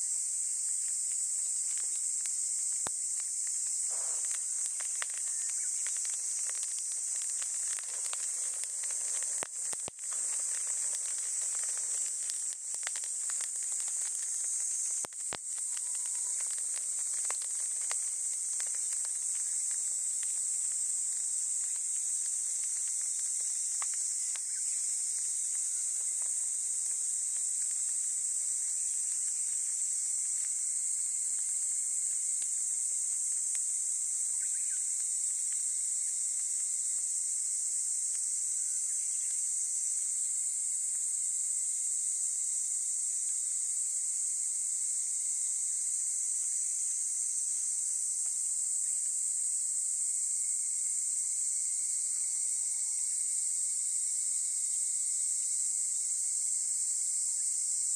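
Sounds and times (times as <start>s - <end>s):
high-pitched insect chorus: 0.0s - 57.9s
small fire crackling: 0.0s - 57.9s.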